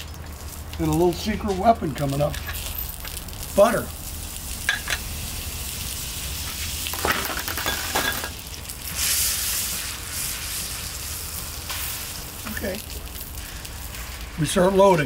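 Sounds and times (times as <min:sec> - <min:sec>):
butter sizzling on a griddle: 0:00.0 - 0:15.0.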